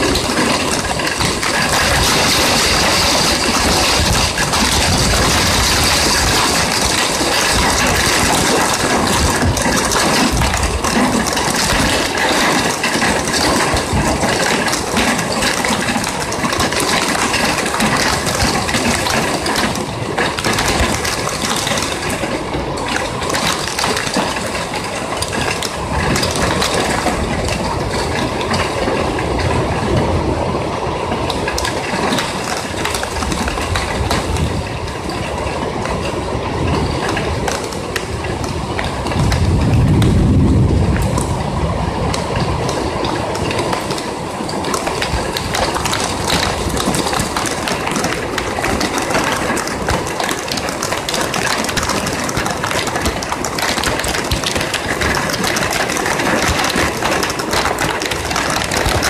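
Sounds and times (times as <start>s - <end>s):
heavy rain on metal ledge: 0.0s - 59.0s.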